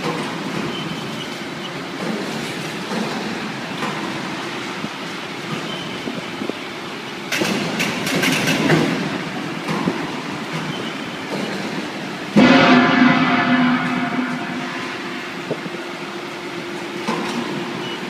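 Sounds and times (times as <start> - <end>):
workshop machinery running: 0.0 - 18.0.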